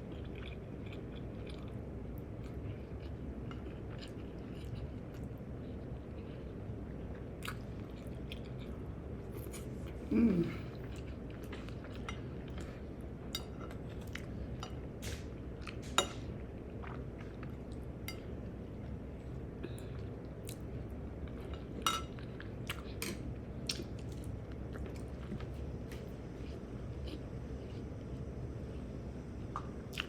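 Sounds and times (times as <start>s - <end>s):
person chewing food: 0.0s - 28.2s
steady low hum: 0.0s - 30.0s.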